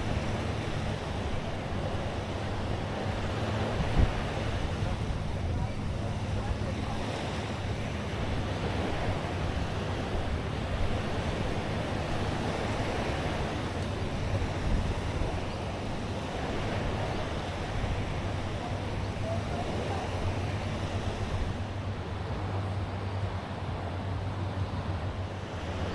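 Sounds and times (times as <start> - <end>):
steady low hum: 0.0 - 25.9
waves washing on shore: 0.0 - 25.9
wind on microphone: 0.0 - 25.9.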